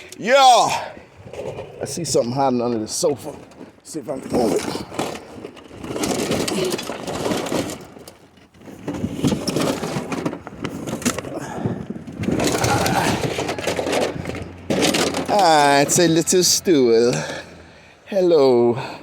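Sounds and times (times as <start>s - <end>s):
objects scraping and knocking: 1.2s - 16.4s.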